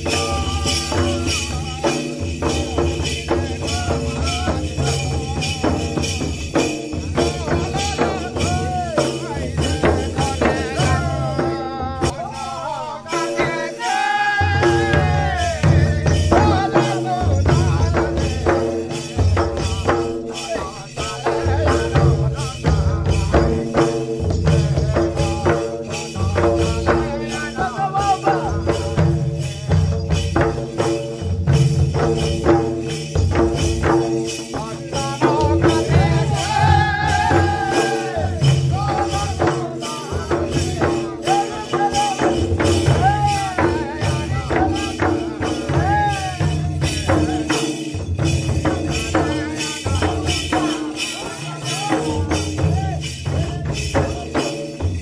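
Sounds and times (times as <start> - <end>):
hand-beaten folk drums: 0.0 - 55.0.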